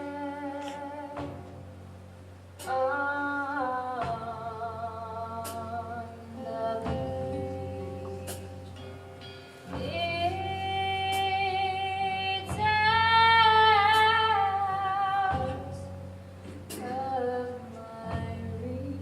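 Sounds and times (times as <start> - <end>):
woman singing: 0.0 - 1.6, 2.6 - 8.7, 9.7 - 15.9, 16.7 - 19.0
guitar accompaniment: 0.0 - 19.0.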